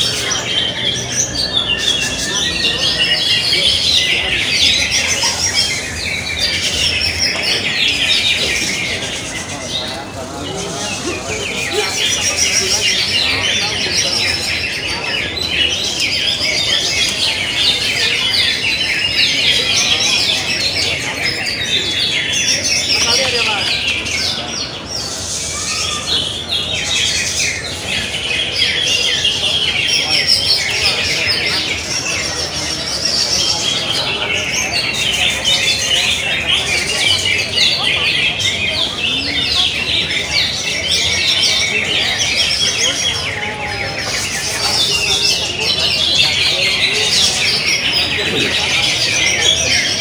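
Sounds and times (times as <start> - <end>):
birds chirping and whistling: 0.0 - 50.0.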